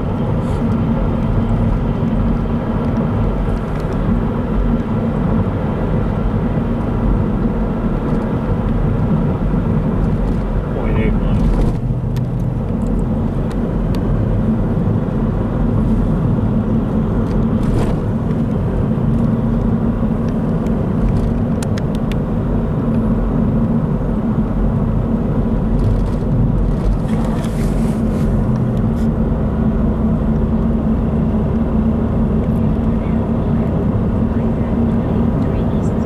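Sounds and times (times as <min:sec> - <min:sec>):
car cabin road and engine drone: 0:00.0 - 0:36.0.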